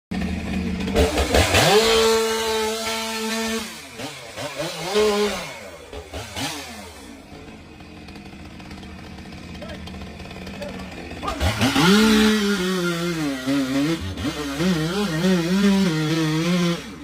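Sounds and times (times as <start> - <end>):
chainsaw revving: 0.1 - 17.0.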